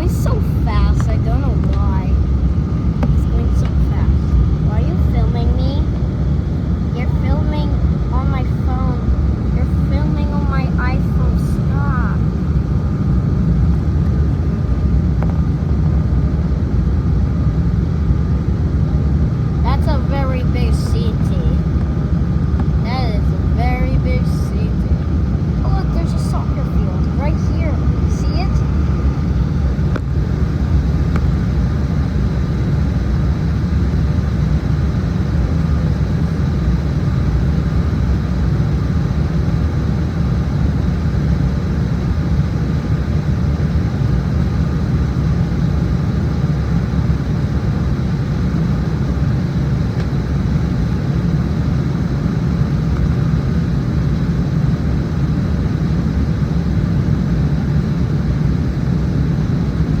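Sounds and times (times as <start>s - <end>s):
airplane engine rumble: 0.0s - 60.0s
faint high whine: 0.0s - 60.0s.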